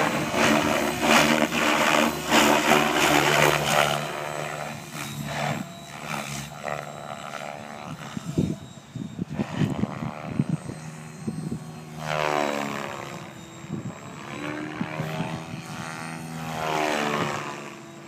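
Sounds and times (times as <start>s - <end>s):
rc helicopter rotor whine: 0.0s - 18.0s.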